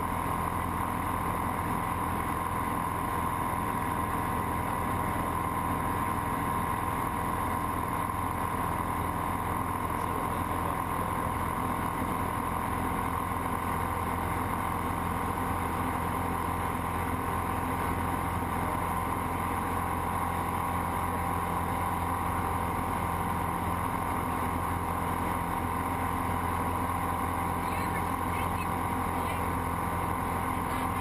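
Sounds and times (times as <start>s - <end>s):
light aircraft engine drone: 0.0s - 31.0s.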